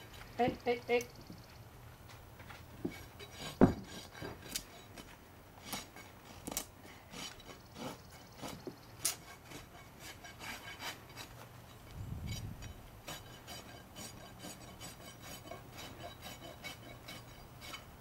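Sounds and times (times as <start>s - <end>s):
hoof rasp scraping: 0.0s - 18.0s.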